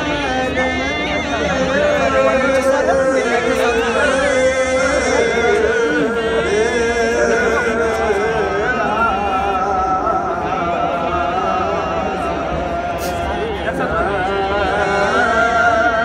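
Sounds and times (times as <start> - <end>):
many voices singing religious chant: 0.0 - 16.0
murmur of large crowd: 0.0 - 16.0.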